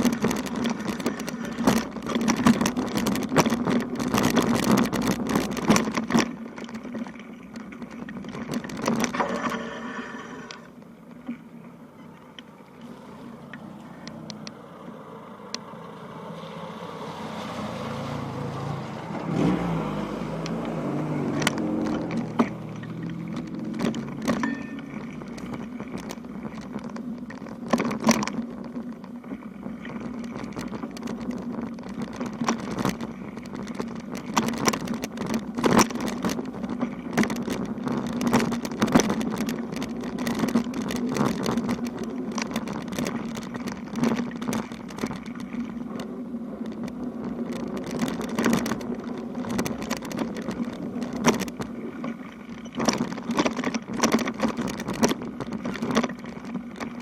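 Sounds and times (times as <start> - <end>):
bicycle knocks and rattles: 0.0 - 11.5, 20.4 - 57.0
bicycle tyres rolling hum: 0.0 - 57.0.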